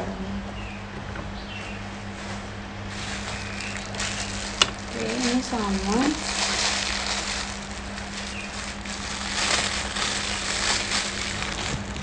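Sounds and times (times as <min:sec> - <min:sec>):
low hum: 0:00.0 - 0:12.0
plastic sleeves crinkling: 0:02.1 - 0:12.0.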